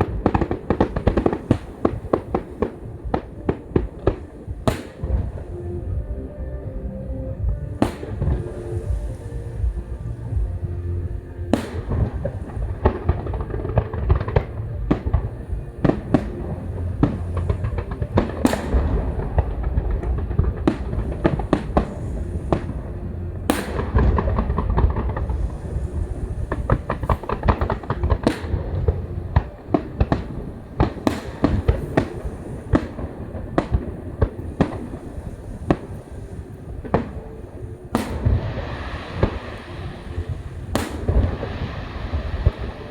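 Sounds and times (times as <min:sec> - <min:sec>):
fireworks bangs: 0:00.0 - 0:06.8, 0:07.4 - 0:42.9
fireworks crackling: 0:00.0 - 0:42.9.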